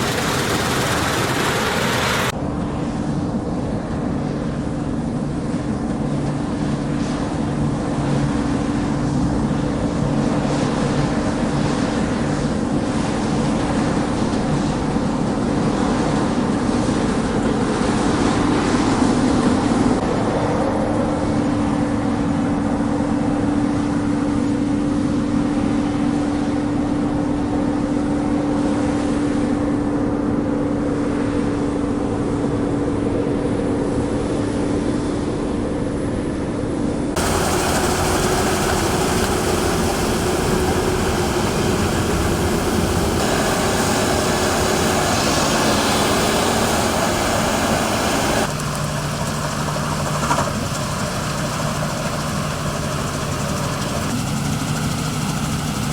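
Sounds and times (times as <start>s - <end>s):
combine harvester engine drone: 0.0s - 55.9s.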